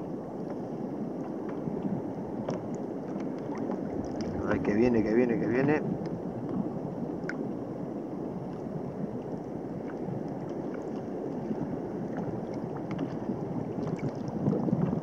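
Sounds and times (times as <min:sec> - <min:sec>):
sea water lapping: 0:00.0 - 0:15.0
wind on microphone: 0:00.0 - 0:15.0.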